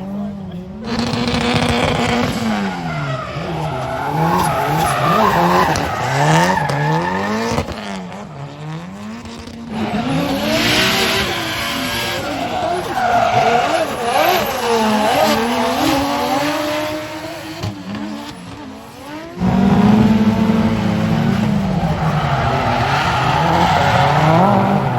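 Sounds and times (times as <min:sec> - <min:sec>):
car engines revving: 0:00.0 - 0:24.9
tyres squealing and skidding: 0:00.1 - 0:24.9.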